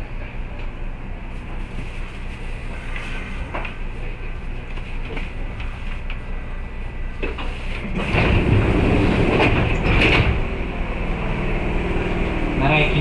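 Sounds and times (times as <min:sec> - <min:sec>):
electric train rumbling on rails: 0:00.0 - 0:13.0.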